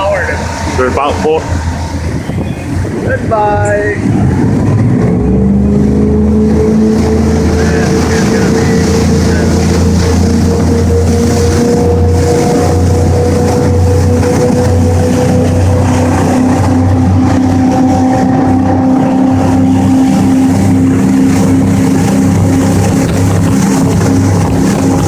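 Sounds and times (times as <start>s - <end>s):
boat engines droning: 0.0s - 25.0s
rushing air and water: 0.0s - 25.0s.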